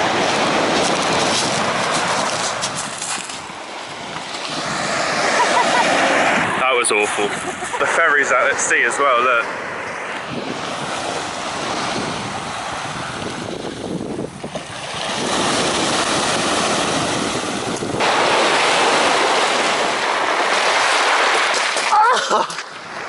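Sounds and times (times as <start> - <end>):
waves breaking on shingle: 0.0 - 6.6, 10.1 - 23.0
wind buffeting microphone: 0.0 - 21.9.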